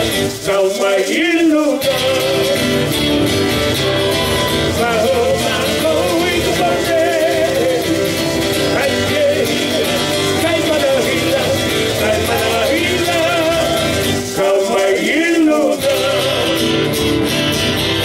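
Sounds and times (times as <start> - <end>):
person singing with vibrato: 0.0 - 3.2, 4.3 - 17.2
strummed guitars: 0.0 - 18.0.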